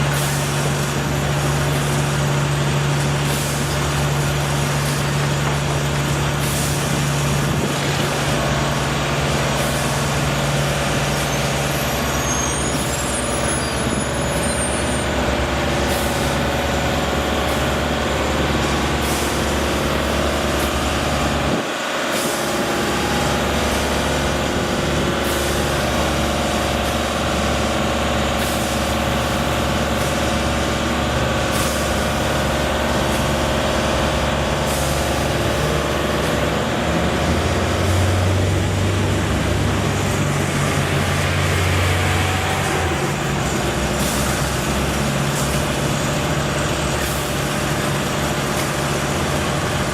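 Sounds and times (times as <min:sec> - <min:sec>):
heavy engine running: 0:00.0 - 0:49.9.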